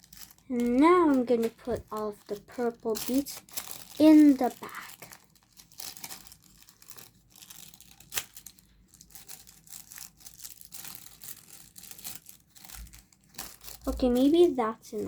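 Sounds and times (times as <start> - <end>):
bag rustling: 0.0 - 15.0.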